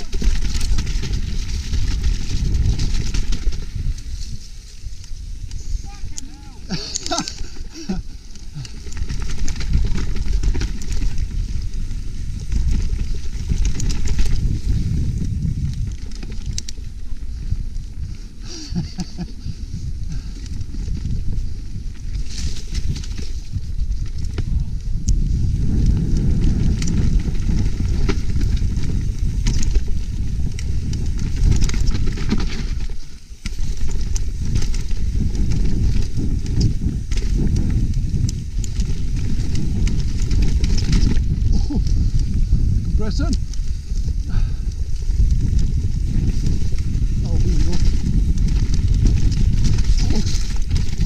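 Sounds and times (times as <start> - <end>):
tyre rumble: 0.0 - 17.4, 18.4 - 51.0
bike rattling and clicking: 0.0 - 51.0
wind on microphone: 0.0 - 51.0.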